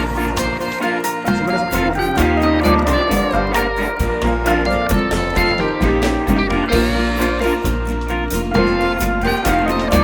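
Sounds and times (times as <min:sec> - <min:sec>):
acoustic guitar music with beat: 0:00.0 - 0:10.0.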